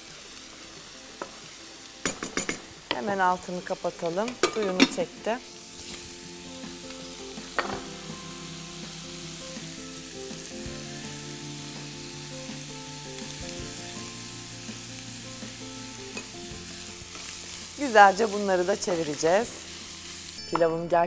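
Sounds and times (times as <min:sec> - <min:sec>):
chicken sizzling in a frying pan: 0:00.0 - 0:20.6.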